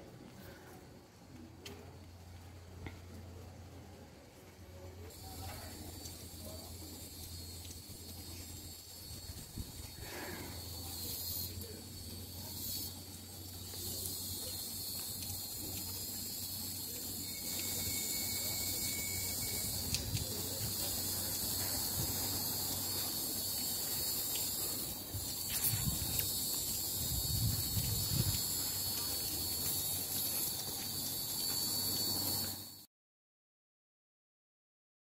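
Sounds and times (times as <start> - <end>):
high-pitched insect chorus: 4.8 - 32.9.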